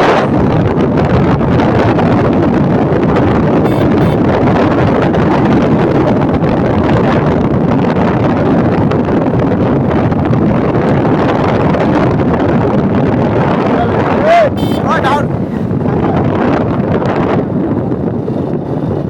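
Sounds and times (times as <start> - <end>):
wind roaring over microphone: 0.0 - 19.0.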